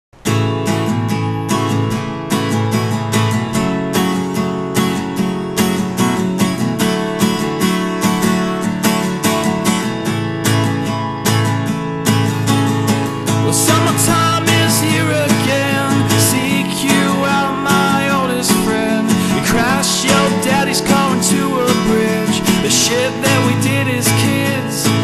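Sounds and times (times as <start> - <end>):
acoustic guitar strumming chords: 0.2 - 25.0.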